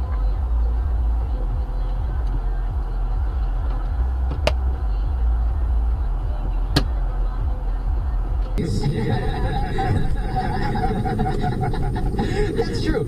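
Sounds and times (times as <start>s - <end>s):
road vehicle rumble: 0.0s - 13.0s.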